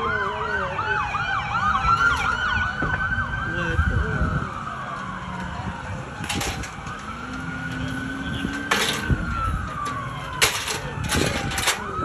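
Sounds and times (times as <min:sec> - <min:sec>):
emergency vehicle siren wailing: 0:00.0 - 0:12.0.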